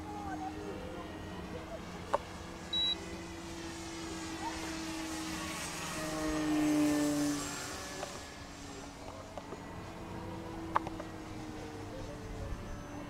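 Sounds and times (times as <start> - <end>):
model plane electric motor humming: 0.0 - 13.0.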